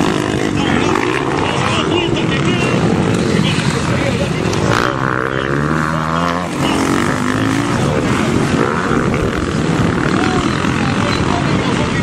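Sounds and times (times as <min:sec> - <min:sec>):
motorcycle engine revving: 0:00.0 - 0:12.0
motorcycle engines racing: 0:00.0 - 0:12.0.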